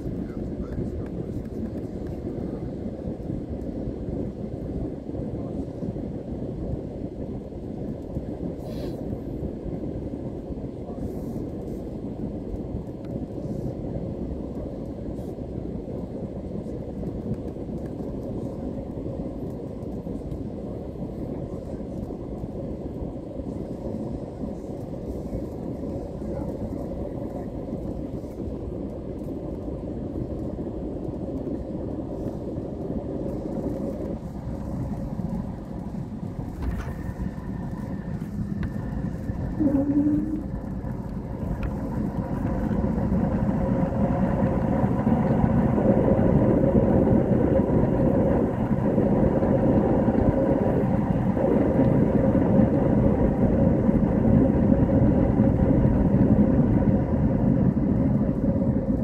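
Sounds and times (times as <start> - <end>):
jet engine and airflow noise: 0.0 - 59.0.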